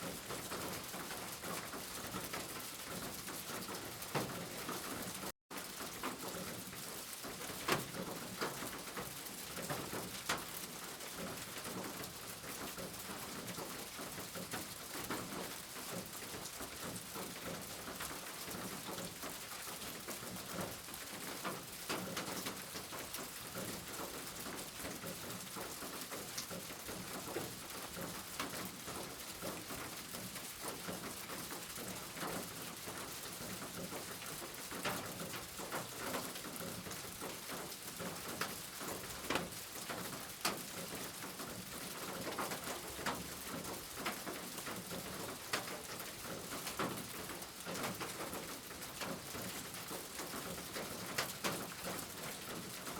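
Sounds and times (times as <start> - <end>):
raindrops ticking on a surface: 0.0 - 52.9
steady rain falling: 0.0 - 52.9.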